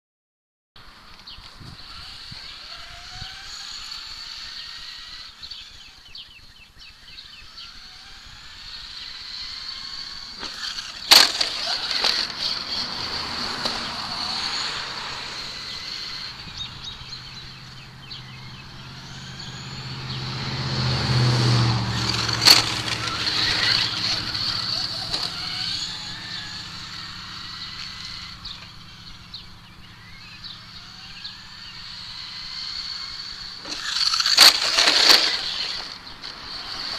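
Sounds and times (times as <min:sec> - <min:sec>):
toy truck electric motor whining: 0:01.5 - 0:20.4, 0:21.2 - 0:36.9
passing vehicle engine rumble: 0:07.0 - 0:36.9.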